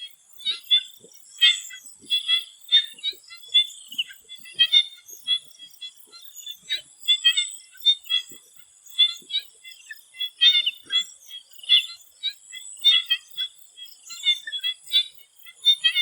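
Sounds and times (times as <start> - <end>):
frogs calling in chorus: 0.0 - 16.0.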